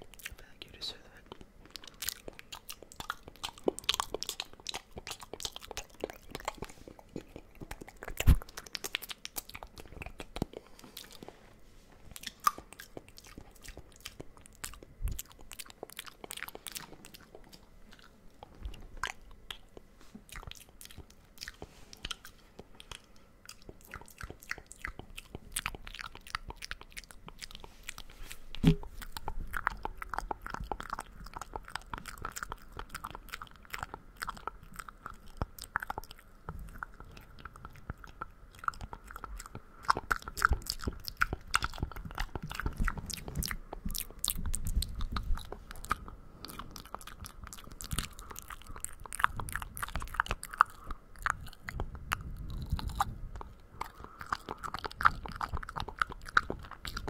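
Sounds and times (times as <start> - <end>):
wet mouth clicks and smacks: 1.3 - 11.4, 19.0 - 57.0.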